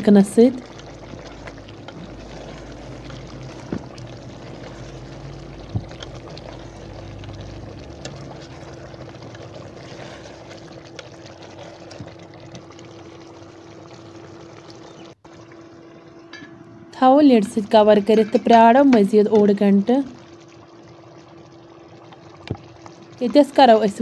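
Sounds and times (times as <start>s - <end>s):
curry bubbling and sloshing: 0.0s - 16.3s, 17.3s - 24.0s.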